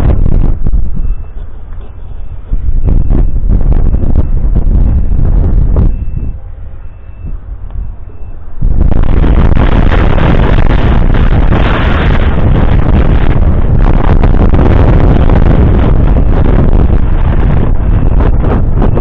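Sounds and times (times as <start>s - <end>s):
tractor diesel engine running: 0.0s - 19.0s
wind noise on microphone: 0.0s - 19.0s.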